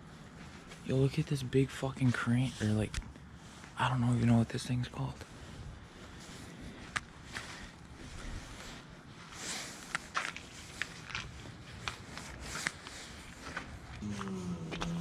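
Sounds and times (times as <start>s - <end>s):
footsteps on rough ground: 0.0s - 15.0s.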